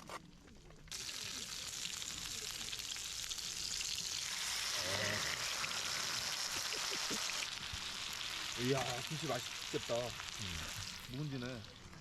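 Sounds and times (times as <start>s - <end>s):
food sizzling in a pan: 0.9s - 12.0s.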